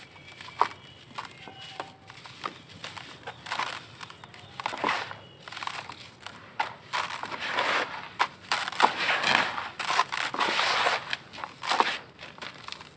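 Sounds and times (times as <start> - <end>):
hands crushing charcoal: 0.0 - 12.9
powder sifting through fingers: 0.0 - 12.9.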